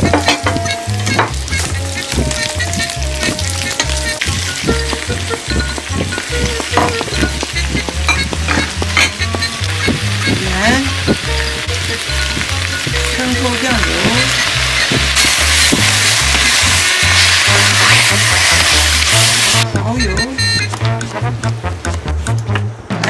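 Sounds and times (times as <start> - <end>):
cabbage sizzling in wok: 0.0 - 19.7.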